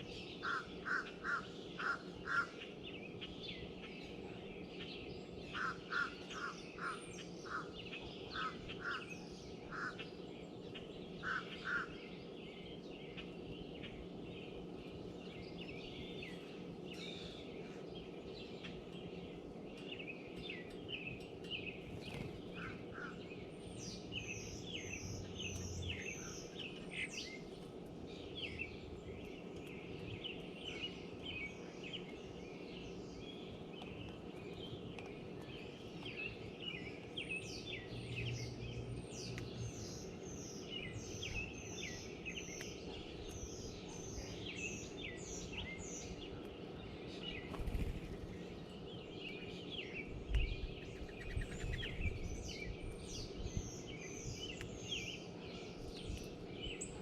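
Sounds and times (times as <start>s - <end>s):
low background noise: 0.0s - 57.0s
songbirds chirping: 0.0s - 57.0s.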